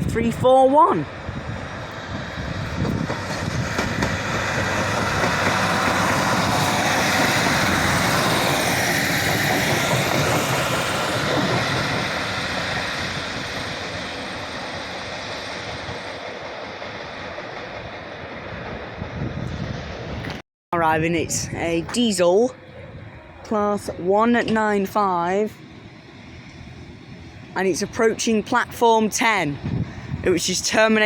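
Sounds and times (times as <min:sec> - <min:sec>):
train wheels on rails: 0:00.2 - 0:20.4, 0:21.5 - 0:31.0.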